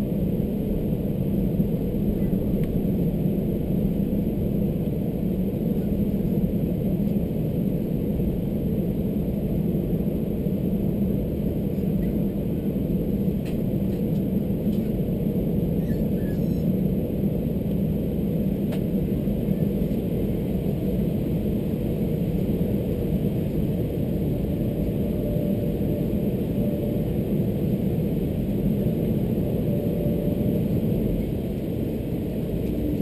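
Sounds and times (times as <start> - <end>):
low rumble in airliner cabin: 0.0 - 33.0.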